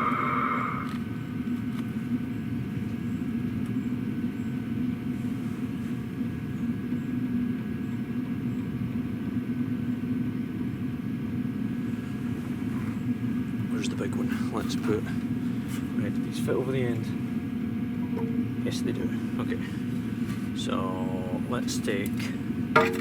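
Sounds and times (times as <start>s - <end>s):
diesel heater low rumble: 0.0s - 23.0s.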